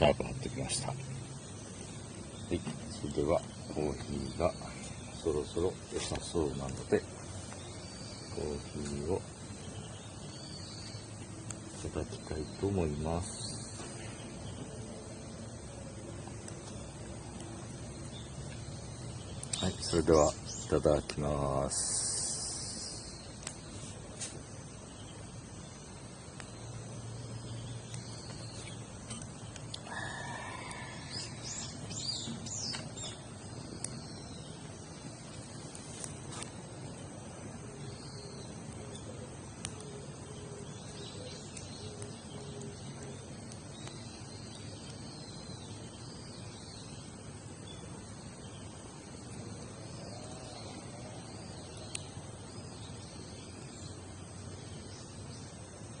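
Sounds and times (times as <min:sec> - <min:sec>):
outdoor background: 0:00.0 - 0:56.0
small birds chirping: 0:00.0 - 0:56.0.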